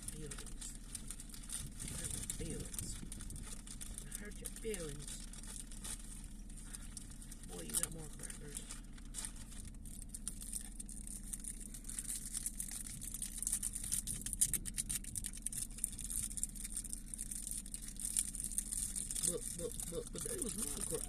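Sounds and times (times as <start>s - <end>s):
plastic packet crinkling: 0.0s - 21.0s
steady low hum: 0.0s - 21.0s.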